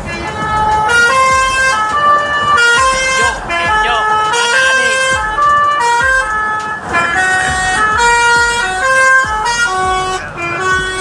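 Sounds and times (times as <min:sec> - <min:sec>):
multi-tone bus horn melody: 0:00.0 - 0:11.0.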